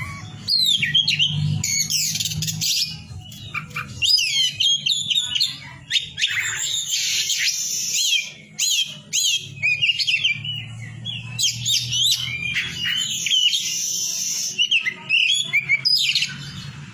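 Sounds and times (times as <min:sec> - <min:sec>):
bird whistling song: 0:00.0 - 0:16.5.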